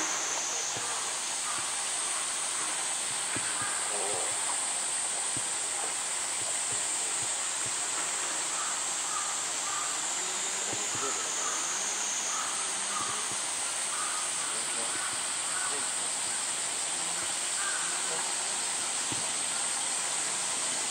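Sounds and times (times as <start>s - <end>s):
faint murmuring voices: 0.0s - 19.8s
cicadas chorus: 0.0s - 20.9s.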